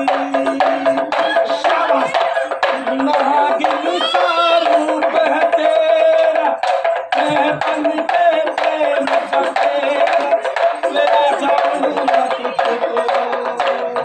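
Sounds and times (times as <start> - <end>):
quick drum beats: 0.0 - 14.0
snake-charmer's pipe melody: 0.0 - 14.0.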